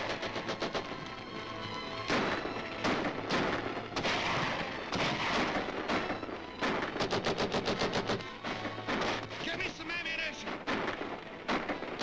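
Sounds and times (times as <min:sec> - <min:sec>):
cannon blasts: 0:00.0 - 0:01.0, 0:02.0 - 0:12.0
gunshots: 0:00.0 - 0:01.2, 0:02.0 - 0:12.0.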